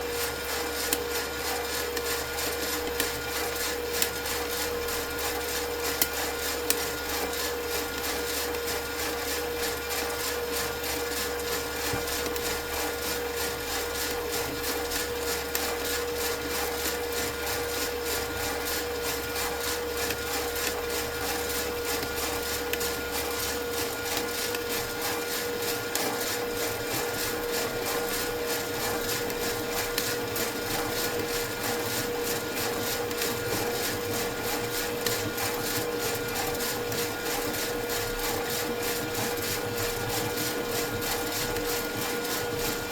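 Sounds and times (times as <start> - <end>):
coffee roaster motor hum: 0.0 - 42.9.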